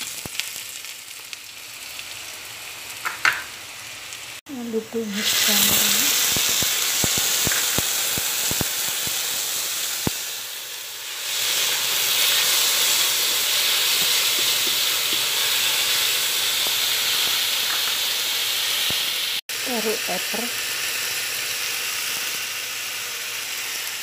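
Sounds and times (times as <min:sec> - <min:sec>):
mushrooms sizzling in oil: 0:00.0 - 0:24.0.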